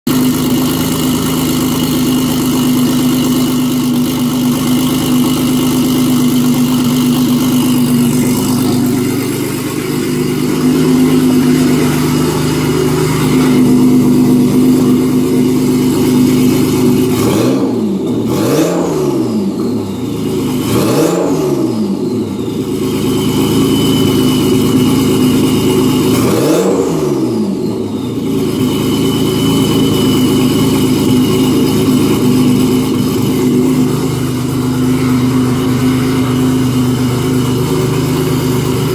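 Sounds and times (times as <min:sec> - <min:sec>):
car engine idling and revving: 0:00.1 - 0:38.9.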